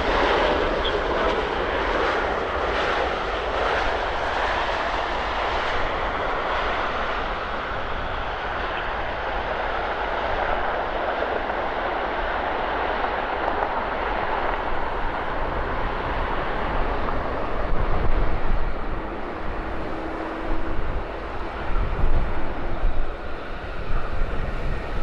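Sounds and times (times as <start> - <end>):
jet engine rushing: 0.0 - 25.0.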